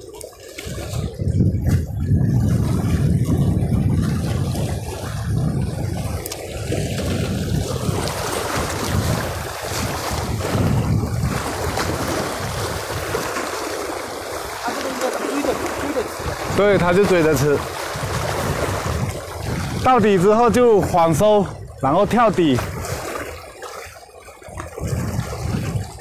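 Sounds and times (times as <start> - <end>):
sea waves against breakwater: 0.0 - 26.0
wind buffeting microphone: 0.0 - 26.0.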